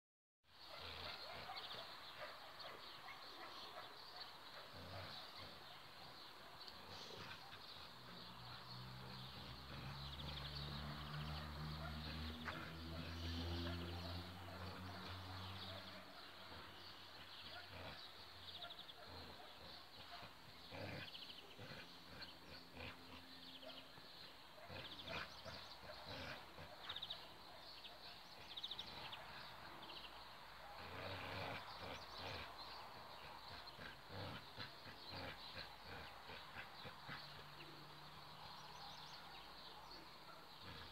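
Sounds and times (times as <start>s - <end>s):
dogs growling: 0.6s - 40.9s.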